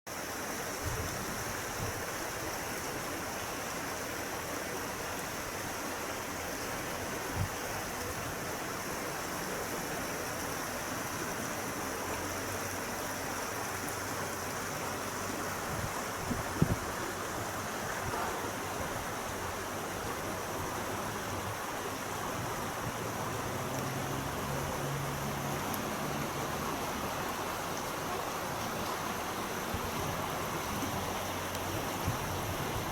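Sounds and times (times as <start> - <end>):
river babbling: 0.1 - 32.9.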